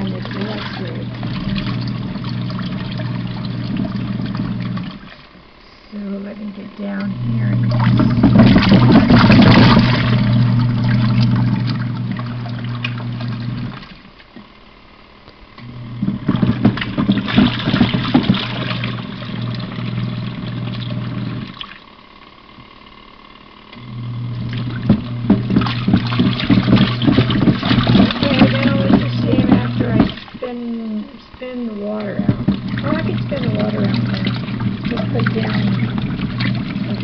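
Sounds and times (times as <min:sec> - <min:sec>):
water and shoes sloshing: 0:00.0 - 0:05.4, 0:07.3 - 0:14.4, 0:16.0 - 0:21.8, 0:24.4 - 0:30.7, 0:31.6 - 0:37.0
washing machine motor humming: 0:00.0 - 0:37.0.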